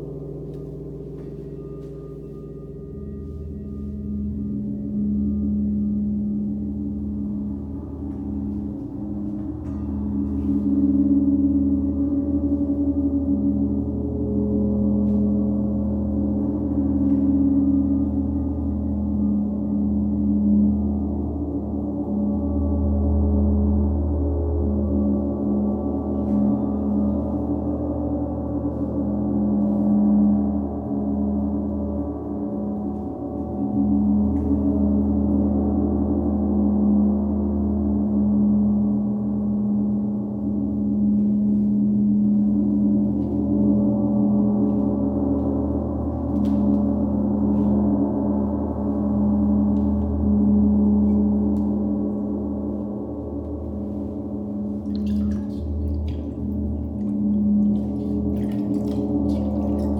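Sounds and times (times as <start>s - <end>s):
large gong ringing: 0.0s - 59.9s.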